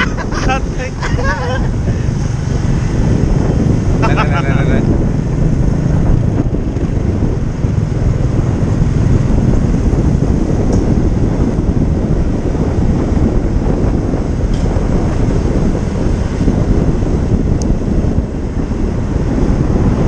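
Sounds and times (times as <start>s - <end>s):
motor scooter running: 0.0s - 20.0s
wind rush on microphone: 0.0s - 20.0s.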